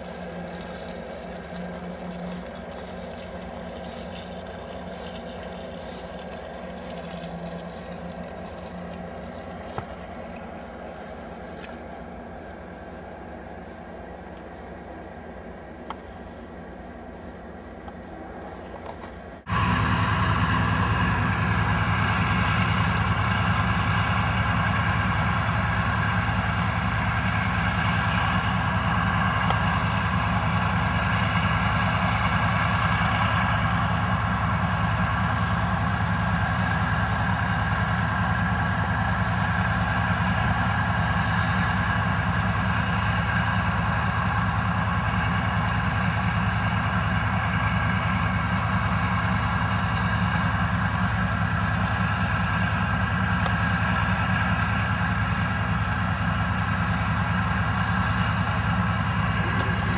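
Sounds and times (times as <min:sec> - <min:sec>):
engines droning with throb: 0:00.0 - 0:59.9.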